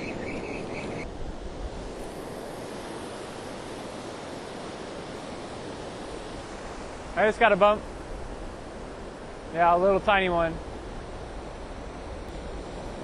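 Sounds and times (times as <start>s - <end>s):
ocean surf washing up beach: 0.0s - 13.0s
wind on microphone: 0.0s - 13.0s.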